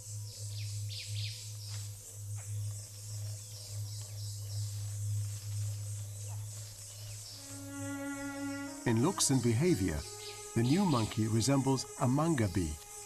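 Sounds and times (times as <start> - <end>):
birds chirping: 0.0 - 13.0
constant low hum: 0.0 - 13.0
high insect drone: 0.0 - 13.0.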